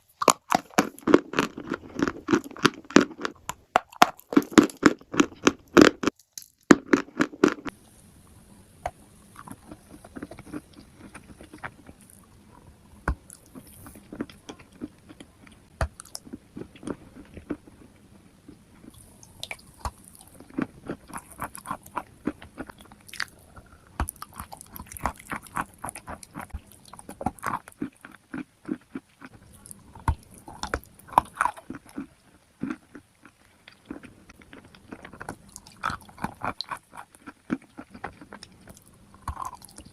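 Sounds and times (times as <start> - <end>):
biting and chewing crunchy chalk: 0.2 - 7.7, 9.4 - 39.9.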